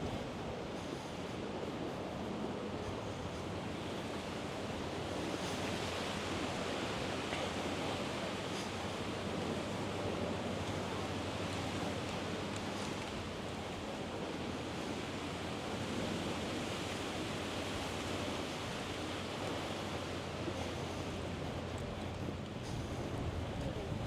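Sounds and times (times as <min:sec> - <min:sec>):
steady rushing outdoor ambience: 0:00.0 - 0:24.0.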